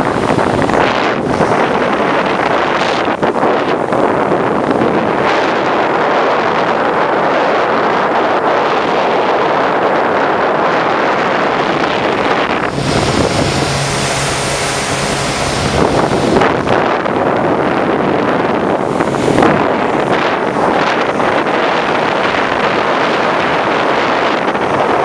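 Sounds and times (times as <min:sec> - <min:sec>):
boat engine hum: 0:00.0 - 0:25.0
water rushing along hull: 0:00.0 - 0:25.0
wind buffeting microphone: 0:00.0 - 0:25.0.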